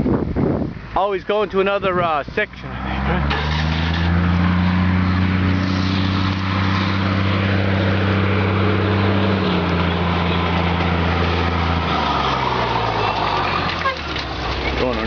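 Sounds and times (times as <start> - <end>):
vehicle engine running: 0.2 - 15.0.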